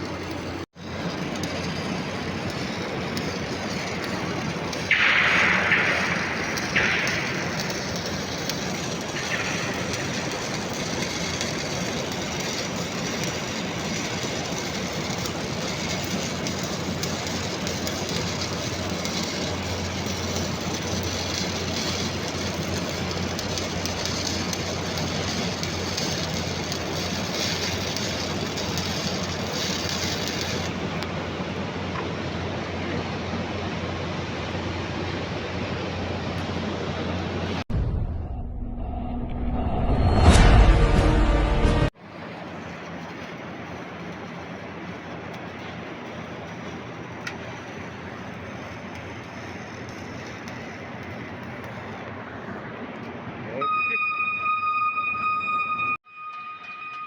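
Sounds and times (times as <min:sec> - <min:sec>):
welding arc crackling and hissing: 0:00.0 - 0:37.6, 0:41.4 - 0:53.7.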